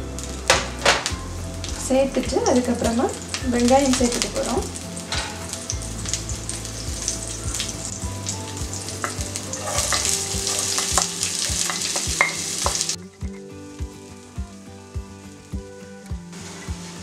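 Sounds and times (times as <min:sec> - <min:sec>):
hot oil sizzling and crackling: 0:00.0 - 0:17.0.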